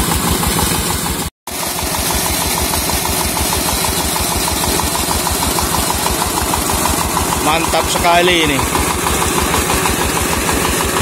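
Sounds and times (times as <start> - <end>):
diesel engine running: 0.0 - 11.0
water jet gushing and splashing: 0.0 - 11.0.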